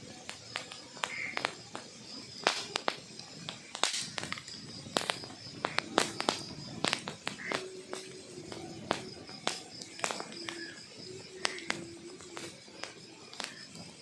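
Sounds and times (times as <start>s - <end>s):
fire hissing: 0.0s - 14.0s
wood fire crackling and popping: 0.0s - 14.0s.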